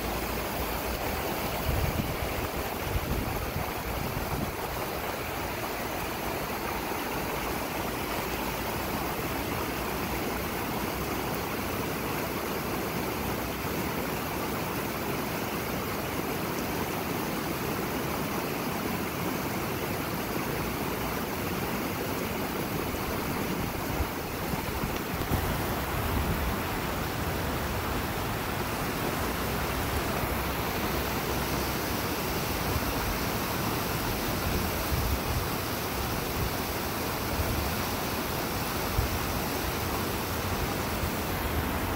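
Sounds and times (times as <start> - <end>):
river rushing over stones: 0.0 - 41.9.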